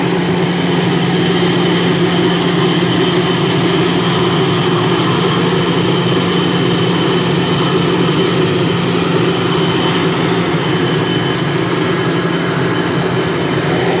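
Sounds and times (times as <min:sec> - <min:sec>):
high steady whine: 0:00.0 - 0:14.0
turboprop engine drone: 0:00.0 - 0:14.0.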